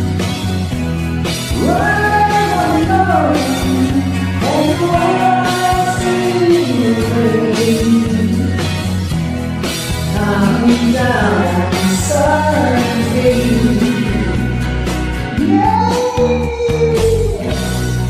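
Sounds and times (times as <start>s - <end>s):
steady drum beat: 0.0s - 18.0s.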